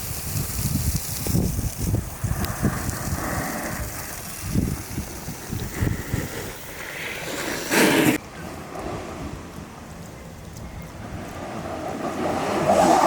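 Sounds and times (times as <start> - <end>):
steady hiss: 0.0 - 13.0
wind buffeting microphone: 0.0 - 13.0.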